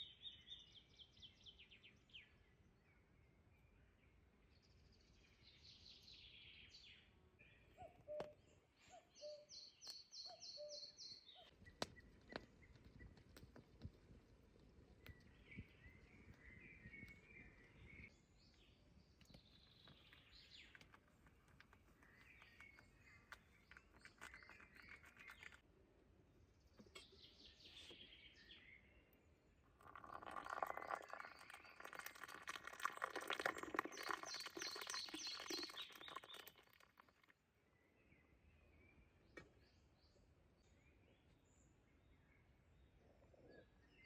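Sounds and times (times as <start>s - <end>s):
birds chirping in forest: 0.0s - 13.6s, 14.5s - 44.0s.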